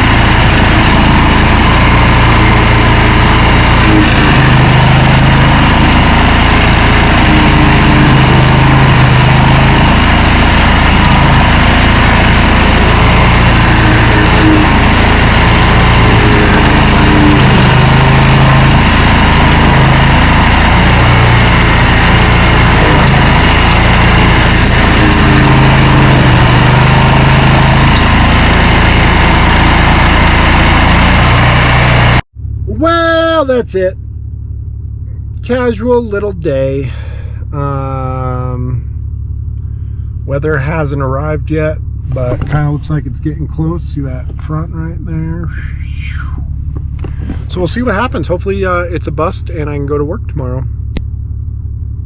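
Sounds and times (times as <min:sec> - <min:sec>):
stump grinder engine running: 0:00.0 - 0:33.4, 0:34.0 - 0:52.0.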